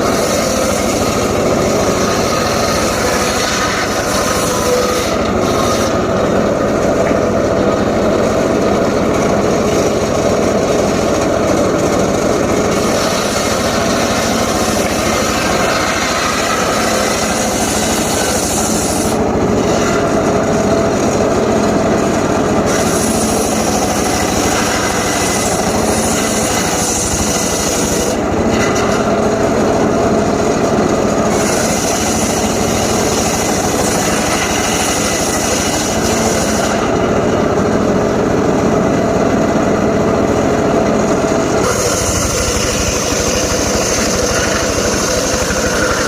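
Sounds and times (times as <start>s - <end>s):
saw rasping through wood: 0.0s - 37.2s, 41.2s - 46.0s.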